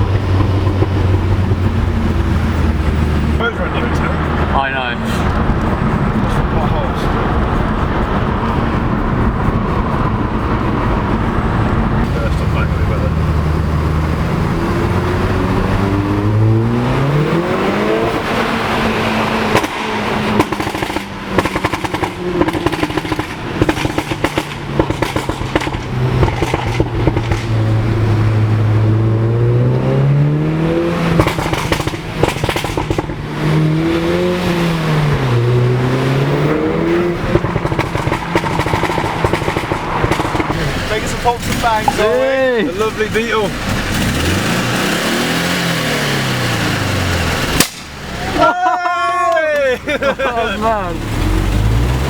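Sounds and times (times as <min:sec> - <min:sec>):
exhaust pops and crackles: 0:00.0 - 0:13.6, 0:18.2 - 0:29.2, 0:30.8 - 0:36.0, 0:36.9 - 0:52.0
car engine revving: 0:00.0 - 0:48.5, 0:49.3 - 0:52.0.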